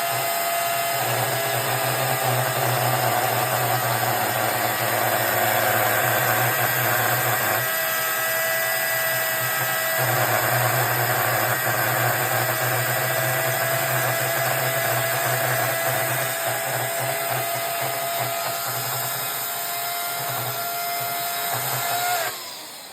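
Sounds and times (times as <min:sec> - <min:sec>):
electric chainsaw running: 0:00.0 - 0:22.9.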